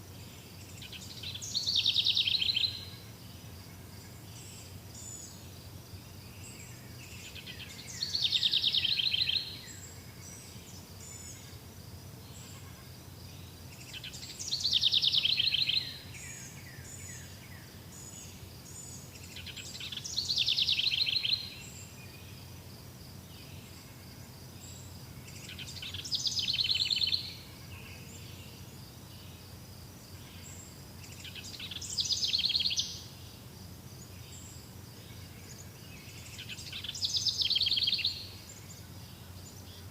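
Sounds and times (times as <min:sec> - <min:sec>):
high chirping of insects or birds: 0:00.0 - 0:39.9
songbird trilling song: 0:00.2 - 0:11.6, 0:12.2 - 0:29.5, 0:30.1 - 0:39.9.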